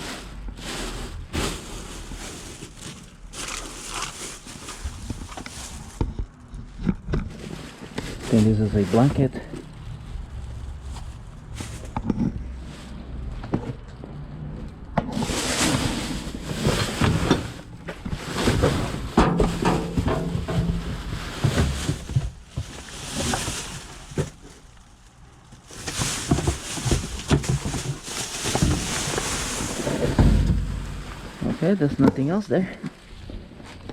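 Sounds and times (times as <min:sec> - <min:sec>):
rustling and handling noise: 0:00.0 - 0:14.1, 0:14.7 - 0:33.9.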